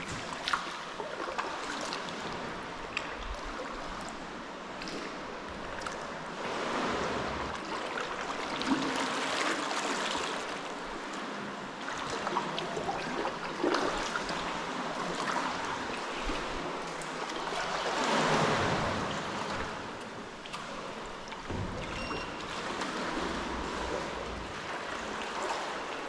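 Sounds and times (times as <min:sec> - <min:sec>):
water sloshing around kayak: 0:00.0 - 0:26.0.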